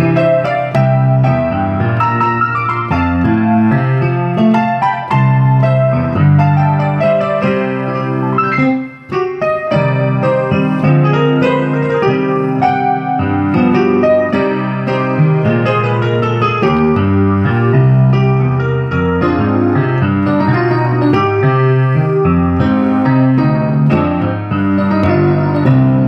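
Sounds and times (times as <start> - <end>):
keyboard instrumental music: 0.0 - 26.0.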